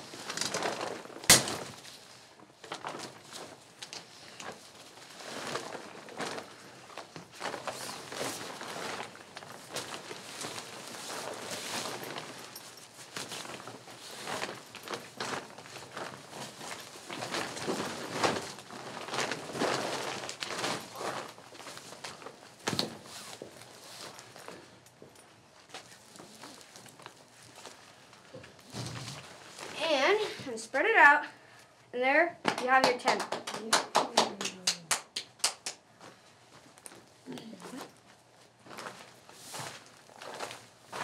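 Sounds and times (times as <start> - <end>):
tent fabric rustling: 0.0 - 30.4, 36.0 - 41.0.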